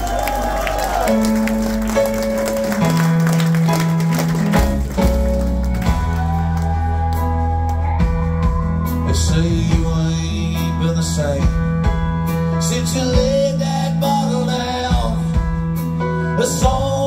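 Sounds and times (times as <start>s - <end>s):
held bass notes: 0.0s - 17.0s
rock band playing: 0.0s - 17.0s.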